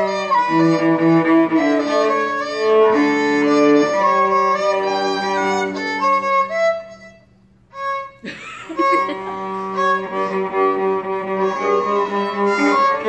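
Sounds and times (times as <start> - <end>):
violin and cello duet: 0.0 - 13.0.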